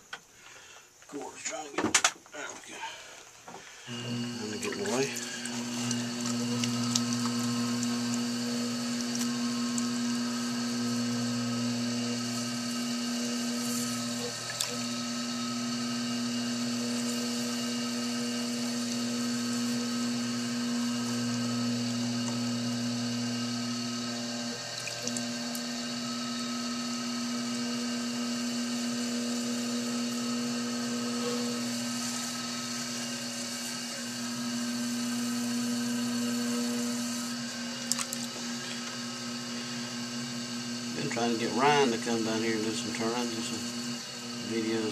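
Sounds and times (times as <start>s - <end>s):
potter's wheel motor hum: 3.7s - 44.9s.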